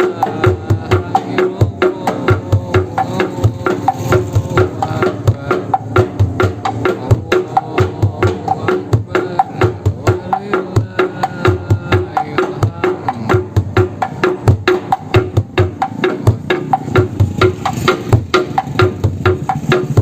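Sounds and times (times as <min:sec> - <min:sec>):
large drum beaten rapidly: 0:00.0 - 0:20.0.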